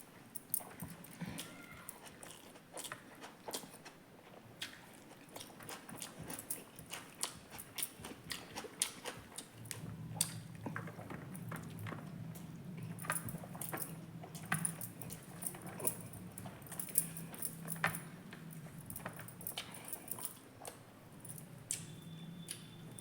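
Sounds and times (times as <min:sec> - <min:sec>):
person chewing food: 0:00.6 - 0:22.7.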